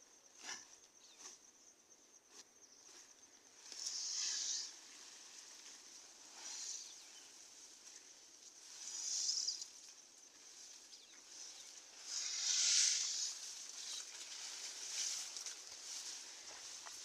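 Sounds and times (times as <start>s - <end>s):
faint steady high hiss: 0.0s - 17.0s
grass fodder rustling: 2.3s - 17.0s.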